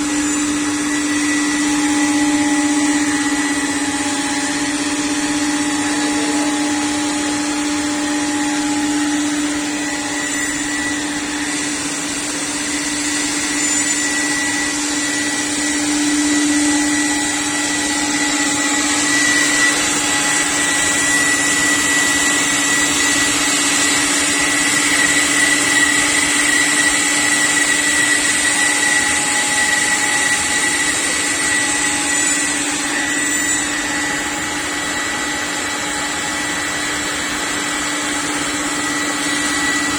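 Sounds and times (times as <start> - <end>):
cutting machine whine: 0.0 - 39.9
rushing vacuum-like noise: 0.0 - 39.9.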